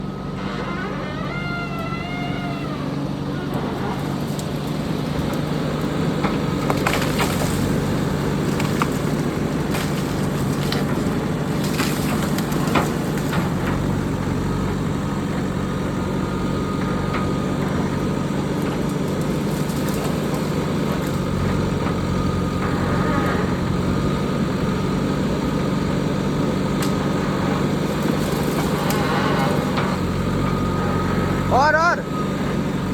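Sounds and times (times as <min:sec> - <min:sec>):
diesel engine running: 0:00.0 - 0:32.9
wood cracking and splintering: 0:00.4 - 0:32.9.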